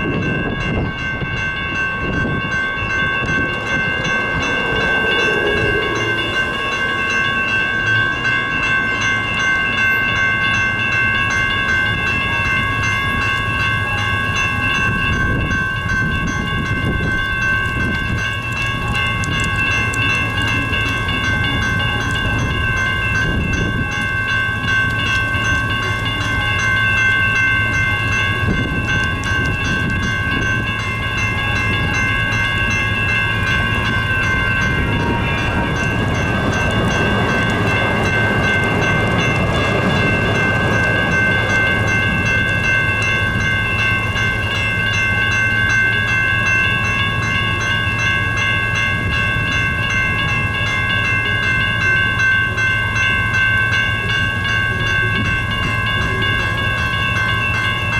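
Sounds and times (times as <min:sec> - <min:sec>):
crossing bells ringing: 0:00.0 - 0:57.9
train rumbling past: 0:00.0 - 0:57.9.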